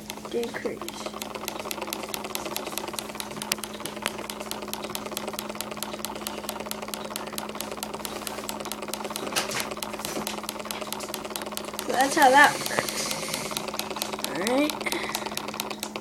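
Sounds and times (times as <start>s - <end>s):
sharp click: 0.0s - 16.0s
small engine ticking and humming: 0.0s - 16.0s.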